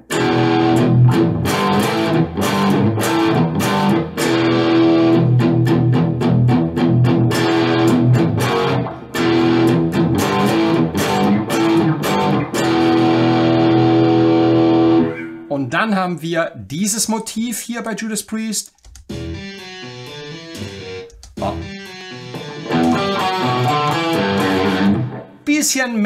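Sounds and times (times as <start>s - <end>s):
electric guitar rock riff: 0.0s - 15.5s, 19.1s - 25.5s.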